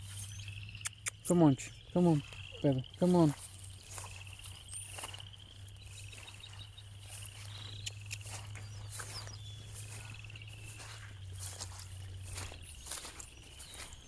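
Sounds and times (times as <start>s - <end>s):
footsteps on wet ground: 0.0s - 14.0s.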